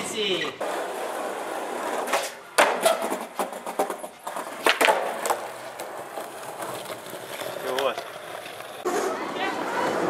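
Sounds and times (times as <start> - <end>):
wheels rolling on concrete: 0.1 - 10.0
skateboard clacking: 0.6 - 10.0
skateboard scraping along ledge: 0.6 - 10.0.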